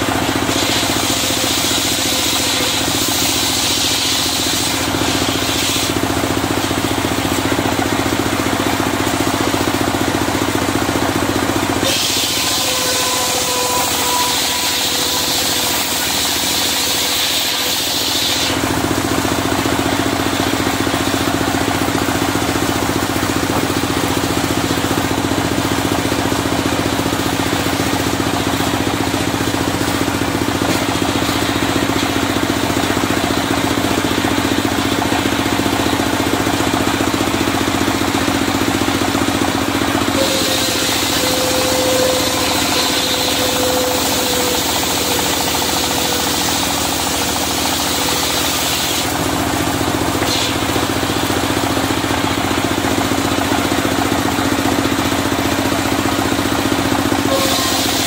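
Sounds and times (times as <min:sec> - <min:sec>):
saw cutting wood: 0:00.0 - 0:58.0
sawmill engine running: 0:00.0 - 0:58.0.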